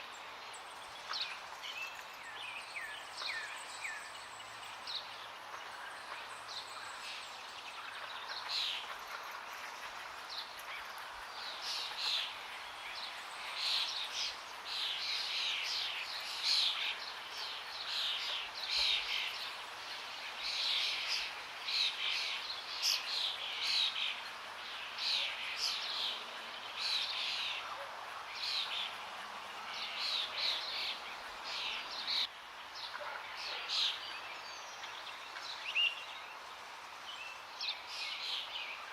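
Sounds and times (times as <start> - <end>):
running water hiss: 0.0 - 38.9
songbirds chirping: 0.0 - 38.9.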